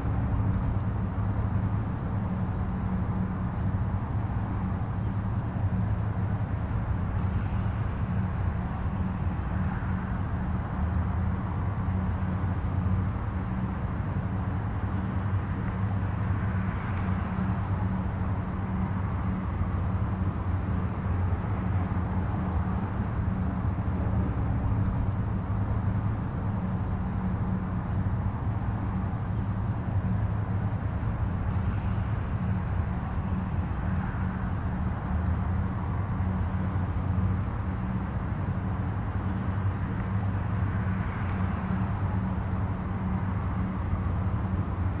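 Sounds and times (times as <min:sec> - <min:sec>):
distant highway traffic rumble: 0:00.0 - 0:45.0.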